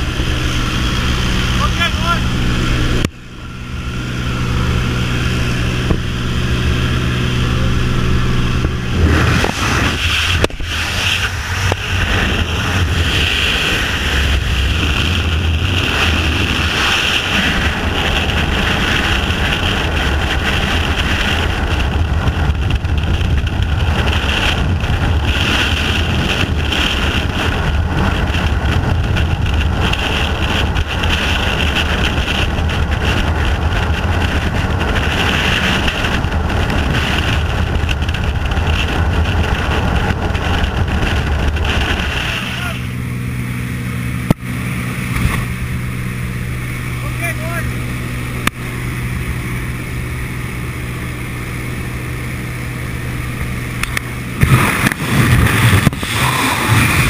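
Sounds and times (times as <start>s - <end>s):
freefall wind rushing: 0.0s - 57.0s
small plane engine droning: 0.0s - 57.0s.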